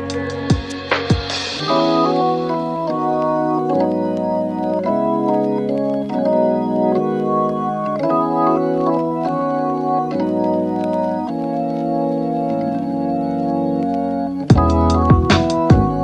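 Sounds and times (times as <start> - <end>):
sustained organ-like keyboard chords: 0.0 - 16.0.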